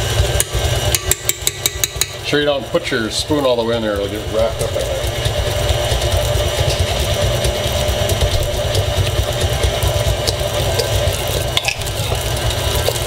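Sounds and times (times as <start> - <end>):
stand mixer beating butter: 0.0 - 13.0.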